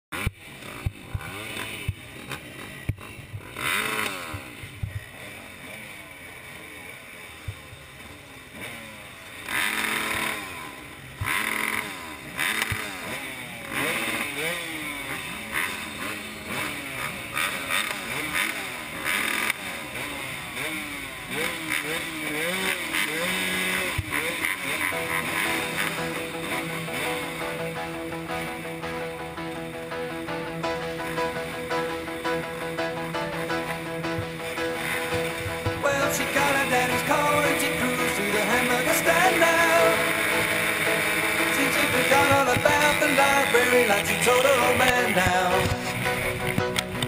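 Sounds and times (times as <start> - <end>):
motocross bikes revving: 0.2 - 47.0.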